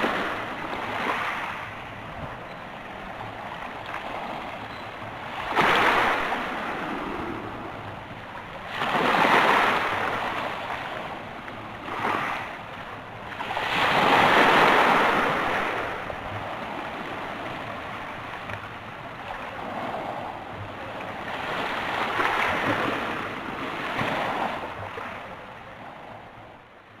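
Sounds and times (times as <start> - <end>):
waves washing over stony beach: 0.0 - 25.3.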